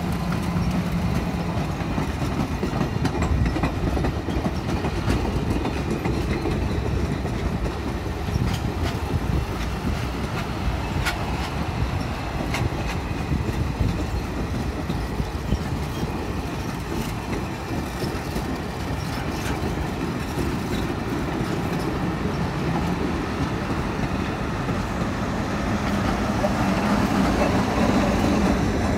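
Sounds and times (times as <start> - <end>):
locomotive engine hum: 0.0 - 28.9
train wheels rumbling on rails: 0.0 - 28.9.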